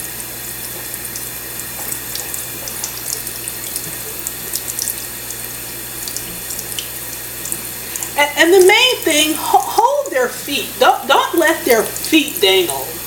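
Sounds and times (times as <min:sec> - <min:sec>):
tap water running: 0:00.0 - 0:13.0
water splashing in sink: 0:00.0 - 0:13.0.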